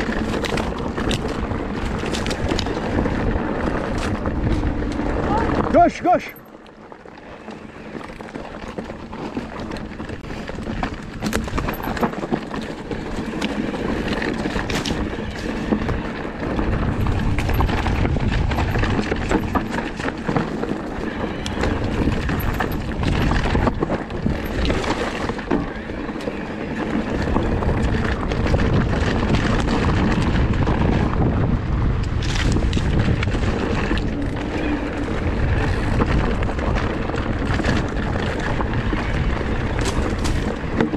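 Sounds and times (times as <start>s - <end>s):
wind buffeting microphone: 0.0s - 6.1s, 7.3s - 40.9s
bike clicking and rattling: 0.0s - 40.9s.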